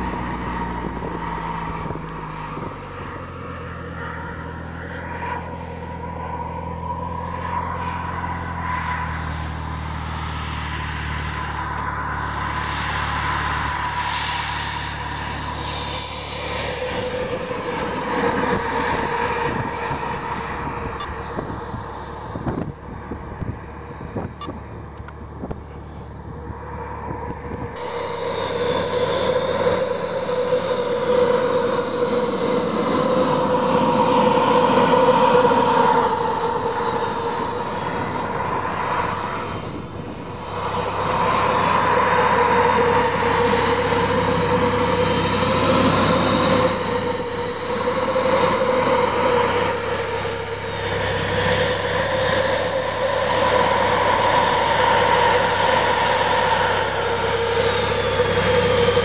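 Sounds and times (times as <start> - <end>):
model jet turbine engine whine: 0.0 - 59.0.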